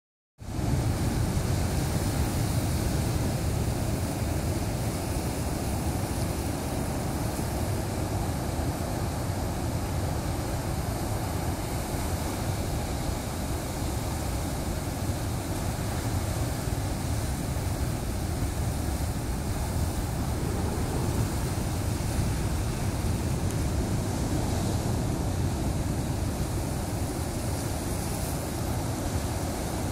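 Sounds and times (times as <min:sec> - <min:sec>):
surf breaking on rocky shore: 0:00.5 - 0:29.9
wind buffeting microphone: 0:00.5 - 0:29.9.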